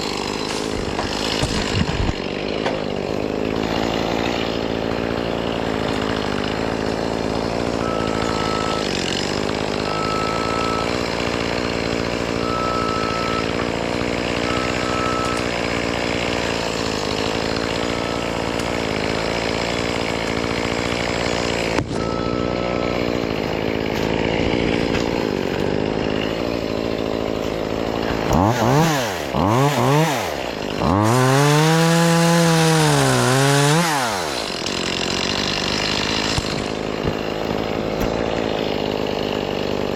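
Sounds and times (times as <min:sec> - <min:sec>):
chainsaw revving: 0:00.0 - 0:39.9
small engine droning: 0:00.0 - 0:39.9.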